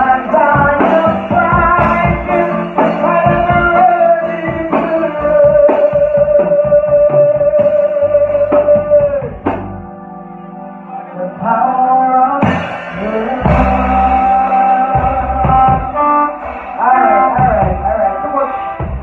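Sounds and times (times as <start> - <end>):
person singing: 0.0 - 19.0
reggae band playing: 0.0 - 19.0.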